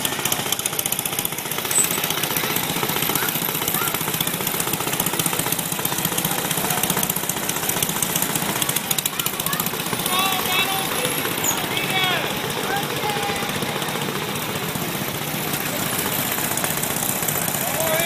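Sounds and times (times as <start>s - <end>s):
small tractor engine running: 0.0s - 18.0s.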